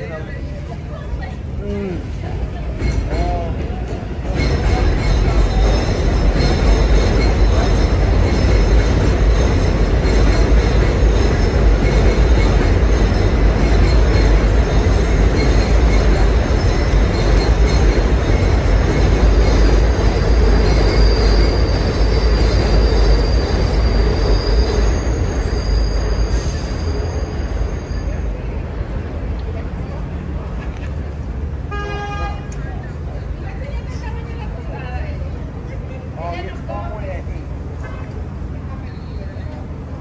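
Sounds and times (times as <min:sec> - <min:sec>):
train rumbling past: 0:00.0 - 0:40.0
wheels squealing on rails: 0:00.0 - 0:40.0.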